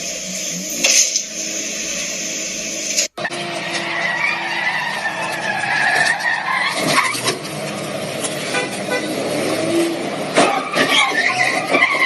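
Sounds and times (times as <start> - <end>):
car and road noise: 0.0 - 12.0
car tyres squealing: 0.0 - 12.0.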